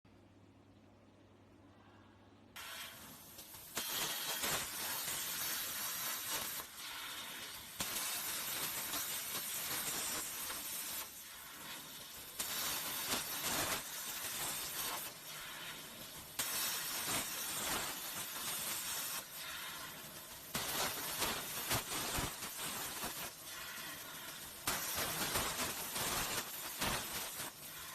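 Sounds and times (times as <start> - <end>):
plasma cutter hissing and crackling: 2.6 - 27.9.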